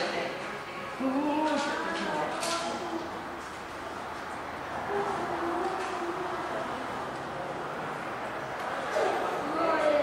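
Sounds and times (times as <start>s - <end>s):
indistinct background noise: 0.0s - 10.0s.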